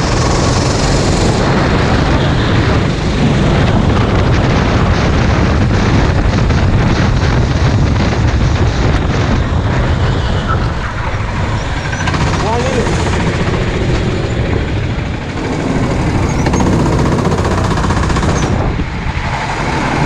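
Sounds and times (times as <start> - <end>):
kart engine running: 0.0 - 20.0
wind buffeting microphone: 0.0 - 20.0.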